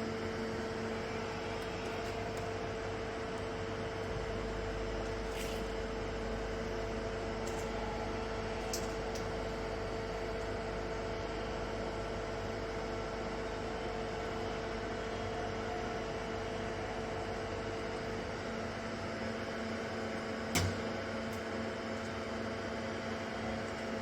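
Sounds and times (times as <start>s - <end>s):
machinery hum with whine: 0.0s - 24.0s.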